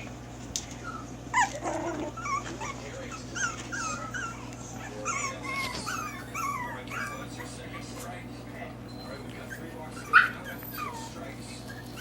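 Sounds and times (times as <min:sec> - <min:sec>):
puppies whining: 0:00.6 - 0:12.0
puppy yipping: 0:00.8 - 0:08.0, 0:09.0 - 0:12.0.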